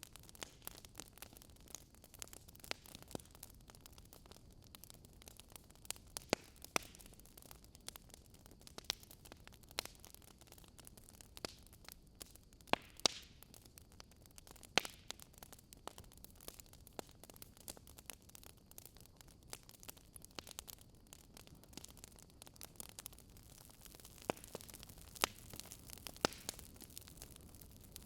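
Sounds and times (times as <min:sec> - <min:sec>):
burning logs crackling: 0:00.0 - 0:28.0.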